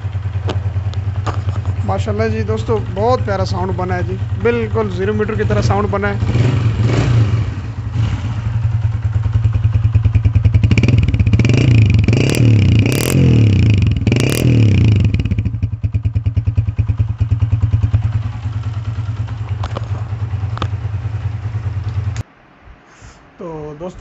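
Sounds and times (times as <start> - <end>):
motorcycle engine revving and idling: 0.0 - 22.2.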